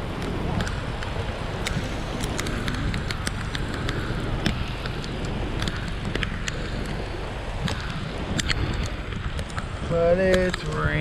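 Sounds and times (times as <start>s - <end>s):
heavy rain: 0.0s - 11.0s
raindrops ticking close by: 0.0s - 11.0s.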